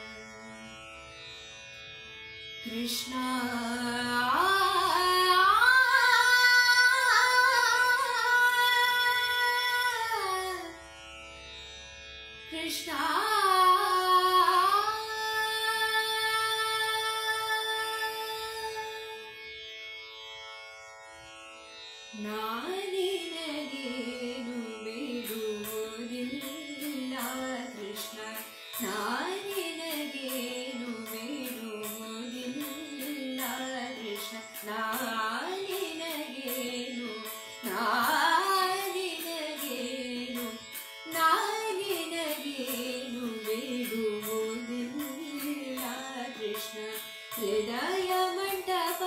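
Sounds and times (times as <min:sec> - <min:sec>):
woman singing: 0:02.6 - 0:10.7, 0:12.5 - 0:19.3, 0:22.2 - 0:49.0.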